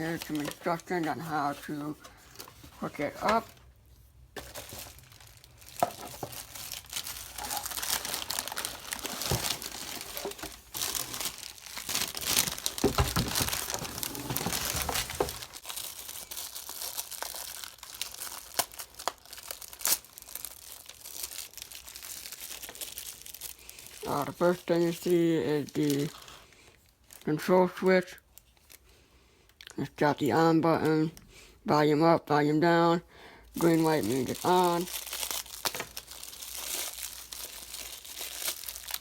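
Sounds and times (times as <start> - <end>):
packaging crinkling and rustling: 0.0 - 27.5, 33.6 - 39.0.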